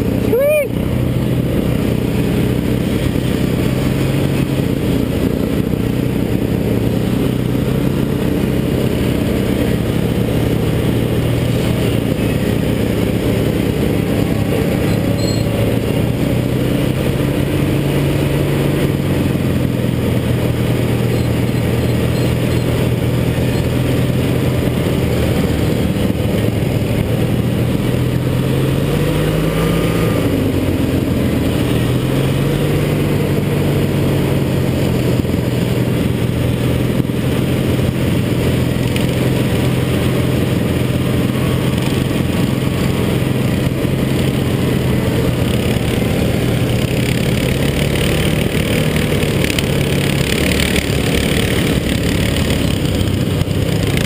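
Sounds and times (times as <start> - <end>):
other mower engines: 0.0 - 54.0
racing lawn mower engine: 0.0 - 54.0.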